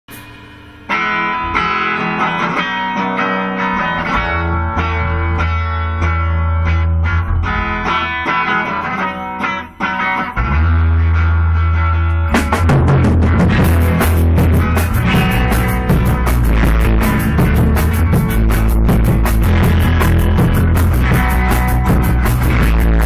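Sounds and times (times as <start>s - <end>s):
electric guitar picking notes: 0.1s - 23.0s
low bass notes: 3.6s - 8.7s, 9.7s - 23.0s.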